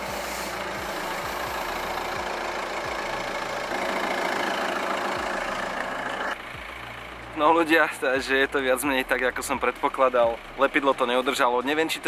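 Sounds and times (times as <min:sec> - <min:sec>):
diesel engine running: 0:00.0 - 0:12.0
road noise: 0:00.0 - 0:12.0.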